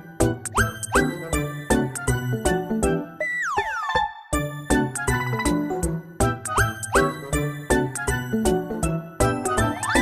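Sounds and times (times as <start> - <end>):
upbeat playful music: 0.0 - 10.0.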